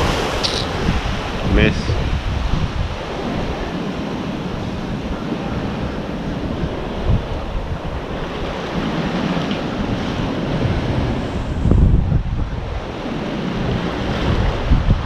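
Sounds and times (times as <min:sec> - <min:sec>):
sea waves washing around pilings: 0:00.0 - 0:15.0
wind buffeting microphone: 0:00.0 - 0:15.0.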